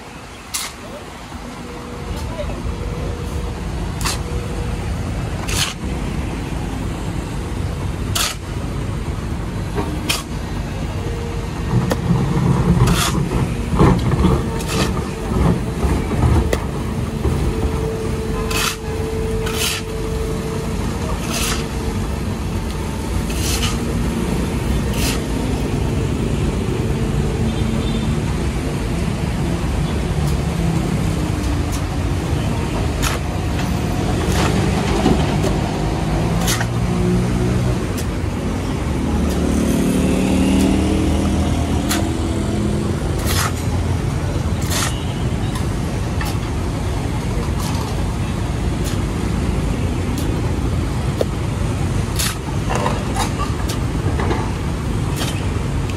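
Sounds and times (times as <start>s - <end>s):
excavator diesel engine under load: 0.2s - 55.9s.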